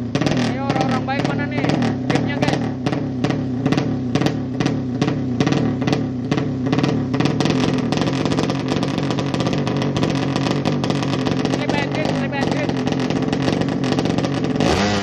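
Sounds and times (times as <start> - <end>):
drag bike engine stuttering: 0.0 - 15.0.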